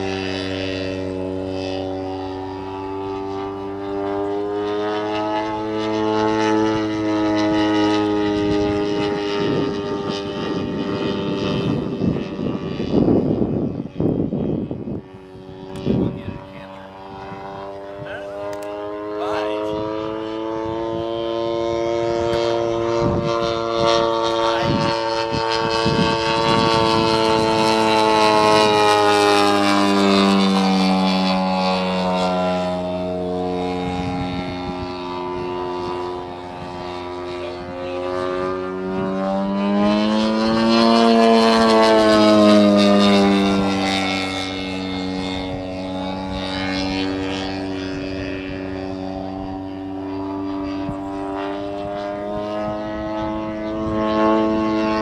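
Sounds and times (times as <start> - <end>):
model plane engine droning: 0.0 - 55.0.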